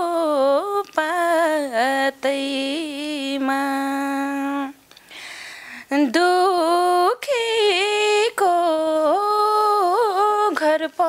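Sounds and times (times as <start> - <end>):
woman singing unaccompanied: 0.0 - 4.9, 5.8 - 11.0.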